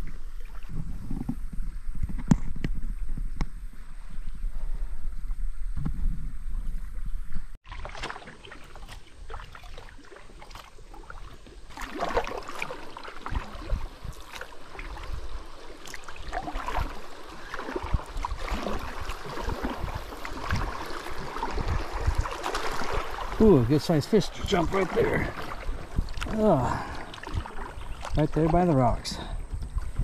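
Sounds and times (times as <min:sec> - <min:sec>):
paddle splashes in water: 0:00.0 - 0:05.0, 0:05.7 - 0:30.0
wind rumble on microphone: 0:00.0 - 0:07.6, 0:12.6 - 0:30.0.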